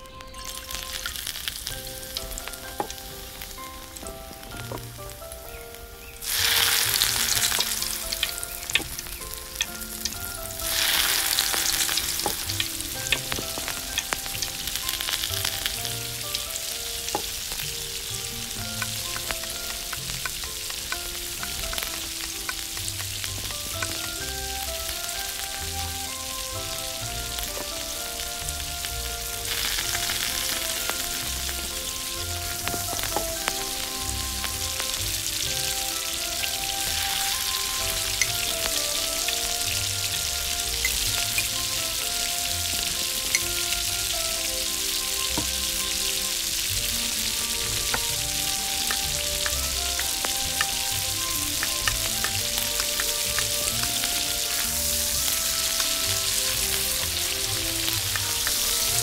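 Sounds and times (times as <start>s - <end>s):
hot oil sizzling: 0.0s - 59.0s.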